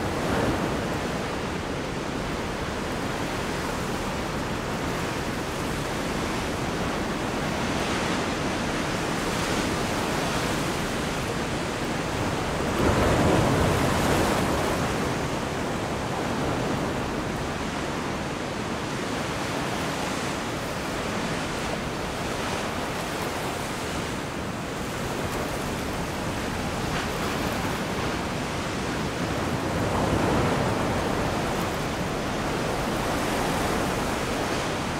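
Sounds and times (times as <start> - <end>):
sea waves washing: 0.0 - 34.9.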